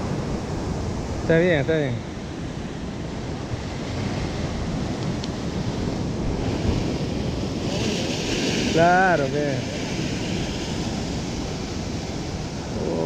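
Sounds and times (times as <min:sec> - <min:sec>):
wind rumbling on microphone: 0:00.0 - 0:13.0
waves breaking against rocks: 0:01.8 - 0:13.0.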